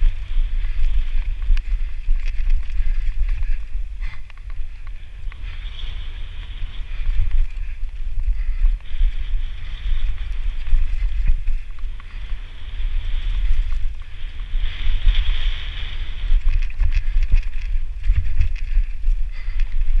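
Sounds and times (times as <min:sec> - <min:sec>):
tyres hissing on dirt trail: 0:00.0 - 0:20.0
wind buffeting microphone: 0:00.0 - 0:20.0.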